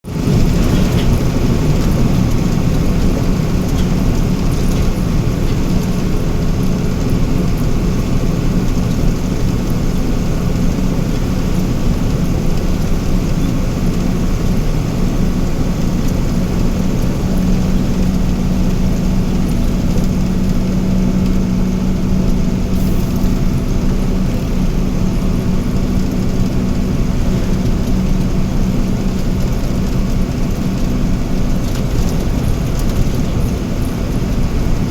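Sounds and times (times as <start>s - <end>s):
diesel machinery engine running: 0.0s - 34.9s.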